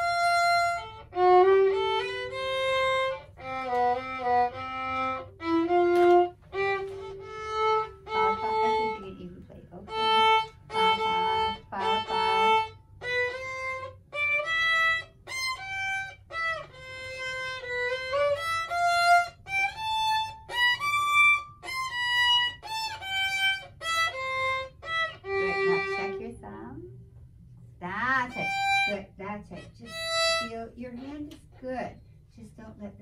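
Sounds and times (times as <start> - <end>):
violin bowed notes: 0.0 - 26.9, 28.0 - 31.8.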